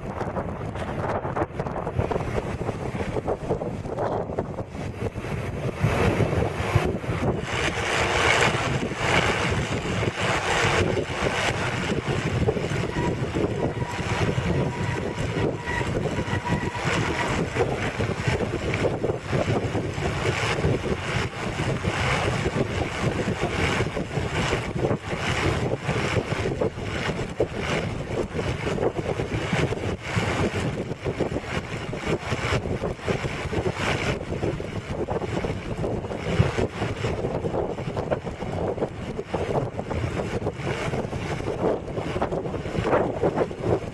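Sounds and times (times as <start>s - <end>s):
vehicle road and engine rumble: 0.0s - 43.9s
wind buffeting microphone: 0.0s - 43.9s.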